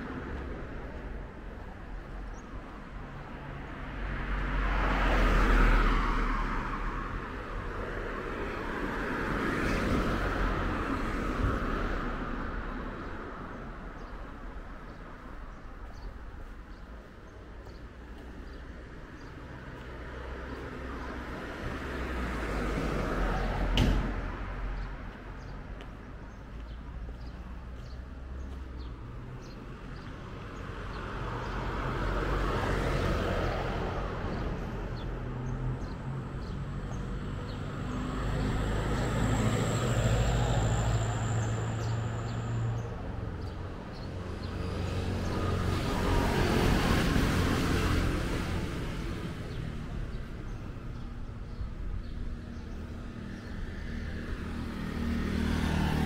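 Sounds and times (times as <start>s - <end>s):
vehicles passing close by: 0.0s - 56.0s.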